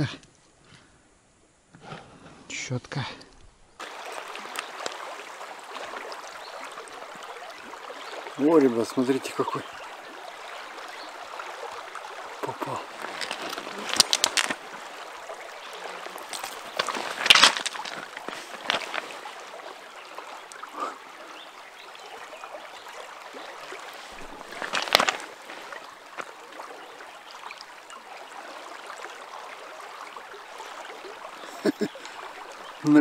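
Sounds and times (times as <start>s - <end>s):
flowing river water: 3.8s - 33.0s.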